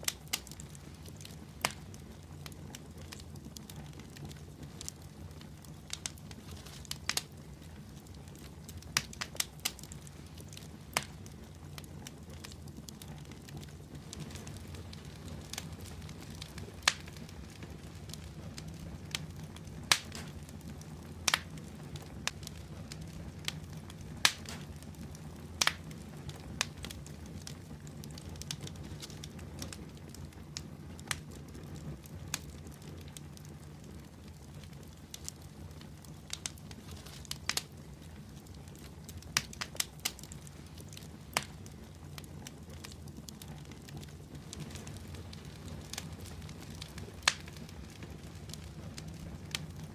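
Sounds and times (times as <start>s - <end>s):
fire crackling and popping: 0.0s - 49.9s
fire flames rumbling: 0.0s - 49.9s.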